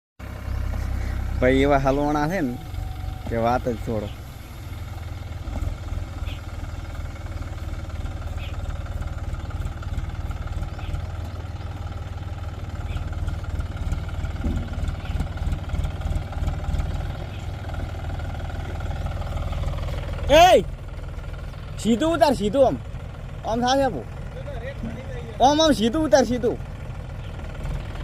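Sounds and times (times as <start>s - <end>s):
tractor diesel engine running: 0.2s - 28.0s.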